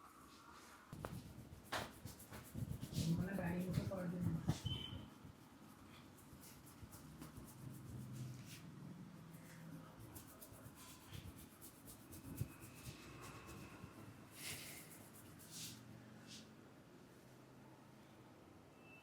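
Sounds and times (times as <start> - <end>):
fingers rubbing hair and scalp: 0.9 - 16.5.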